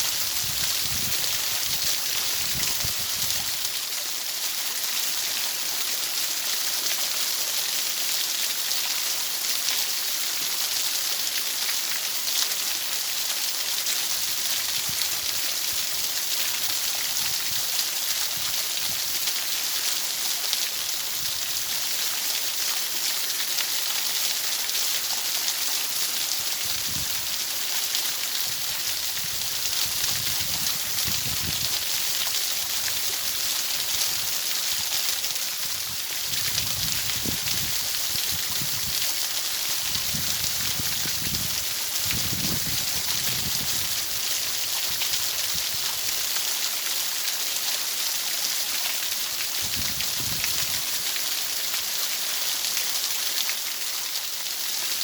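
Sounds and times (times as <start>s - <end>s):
rain-like water hiss: 0.0s - 55.0s.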